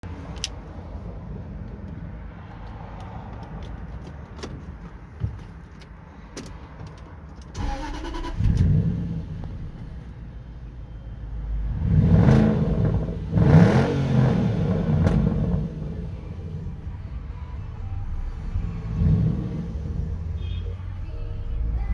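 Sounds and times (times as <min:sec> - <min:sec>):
car engine idling and revving: 0:00.0 - 0:21.9.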